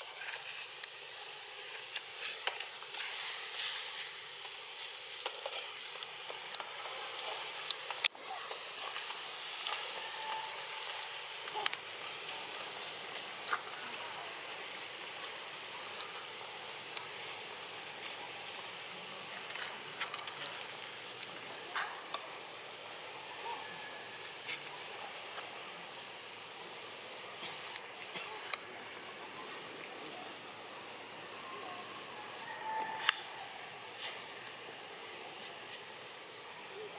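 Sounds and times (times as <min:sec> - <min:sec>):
insect chorus hiss: 0:00.0 - 0:36.9.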